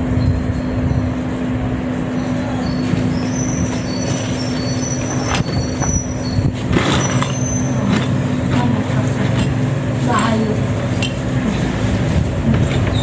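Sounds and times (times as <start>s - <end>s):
motor humming with low rumble: 0.0s - 13.0s.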